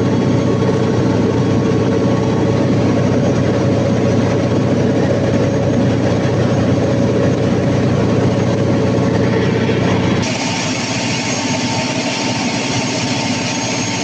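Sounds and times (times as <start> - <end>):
diesel generator engine running: 0.0 - 14.0.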